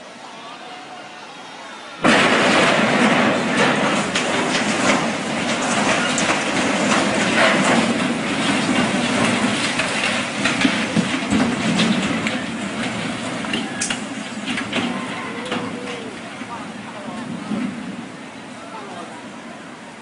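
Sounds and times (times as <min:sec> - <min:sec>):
barge knocking and scraping: 0:02.0 - 0:18.6.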